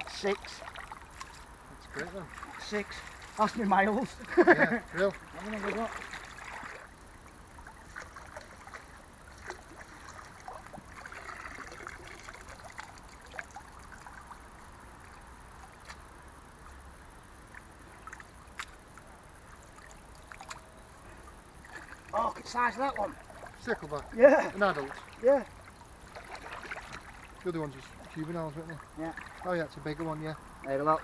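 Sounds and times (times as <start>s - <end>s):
hand net moving through water: 0.0s - 16.8s, 17.4s - 30.8s
stream water sloshing and trickling: 0.0s - 31.0s.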